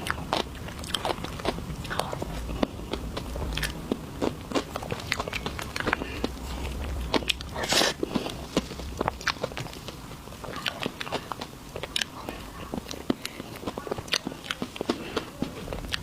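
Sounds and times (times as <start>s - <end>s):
mouth chewing and biting: 0.0s - 16.0s.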